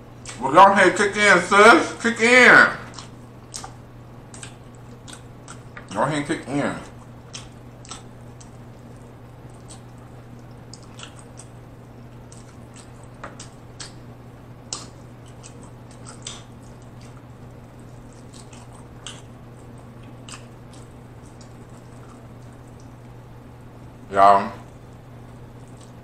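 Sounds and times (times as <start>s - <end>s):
steady low hum: 0.0s - 26.0s
person chewing wetly: 2.9s - 6.0s, 6.8s - 23.3s, 24.6s - 26.0s.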